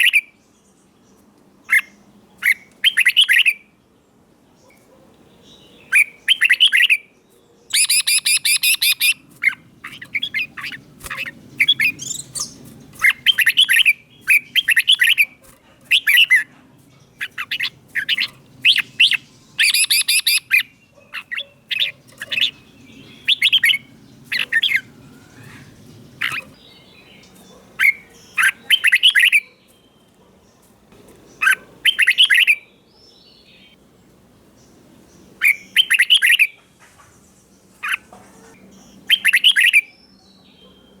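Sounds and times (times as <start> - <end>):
bird singing quick phrases: 1.7 - 3.6, 4.6 - 33.8, 34.6 - 36.6, 37.8 - 41.0.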